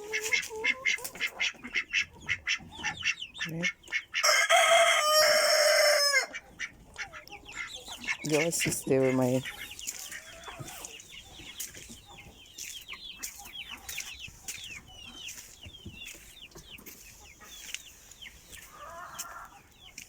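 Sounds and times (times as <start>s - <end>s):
chickens chirping: 0.0s - 20.0s.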